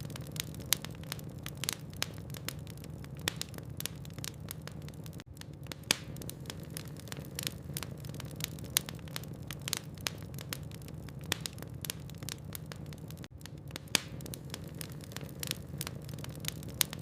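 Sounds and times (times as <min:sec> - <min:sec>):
logs crackling in a fireplace: 0:00.0 - 0:17.0.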